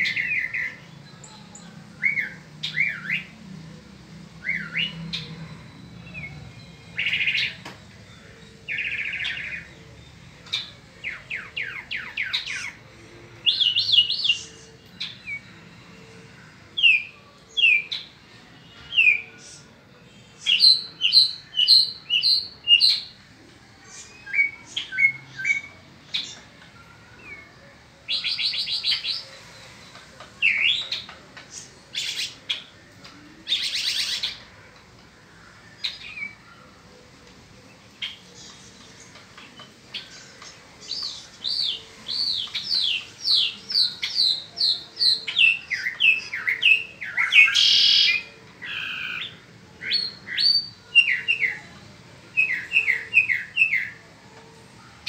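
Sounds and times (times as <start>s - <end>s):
mockingbird singing: 0.0s - 3.5s, 4.1s - 34.7s, 35.3s - 51.7s, 52.3s - 54.0s.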